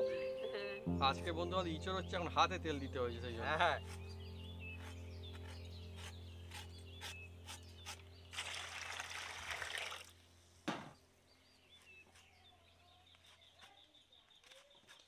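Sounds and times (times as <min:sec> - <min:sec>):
birds chirping faintly: 0:00.0 - 0:08.7, 0:10.5 - 0:15.0.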